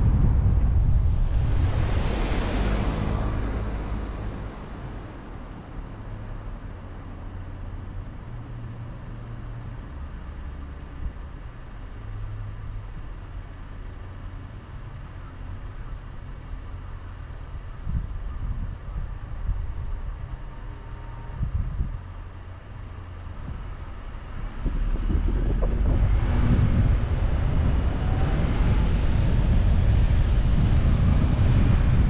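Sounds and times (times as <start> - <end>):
car engine and road rumble: 0.0 - 32.0
road and wind noise: 0.0 - 32.0.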